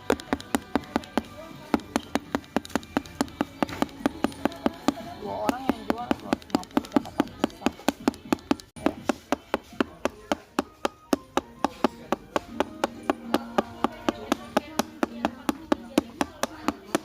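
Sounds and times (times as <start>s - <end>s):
rapid tapping on wood: 0.0s - 17.0s.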